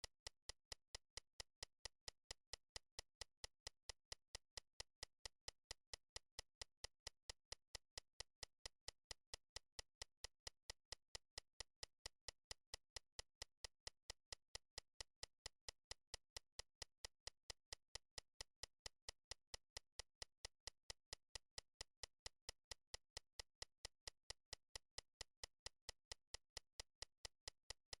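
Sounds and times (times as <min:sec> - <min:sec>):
faint ticks: 0:00.0 - 0:28.0.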